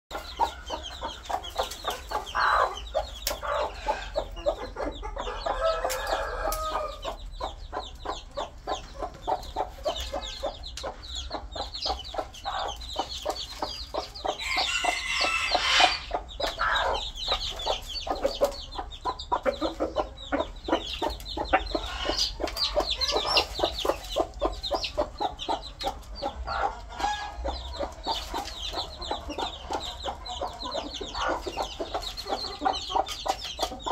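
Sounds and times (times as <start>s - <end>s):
chicks peeping: 0.1s - 33.9s
hen and cock clucking: 0.1s - 33.9s.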